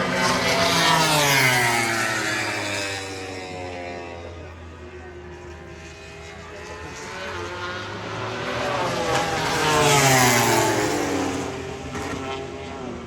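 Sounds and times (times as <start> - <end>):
racing motorcycle passing: 0.0 - 13.0.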